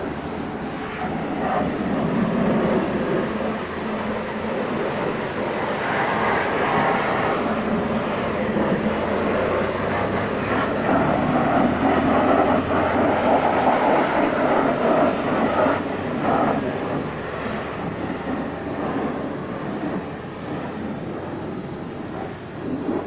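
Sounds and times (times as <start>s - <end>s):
pressure washer spraying water: 0.0s - 23.0s.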